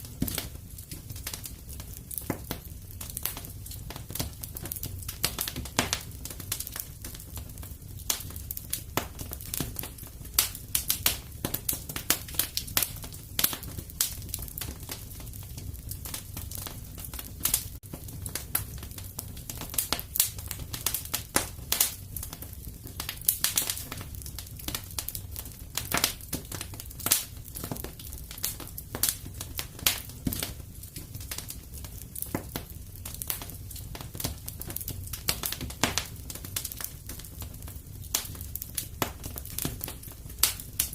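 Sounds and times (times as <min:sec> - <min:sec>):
low steady fire rumble: 0:00.0 - 0:40.9
wood fire crackling and popping: 0:00.0 - 0:40.9.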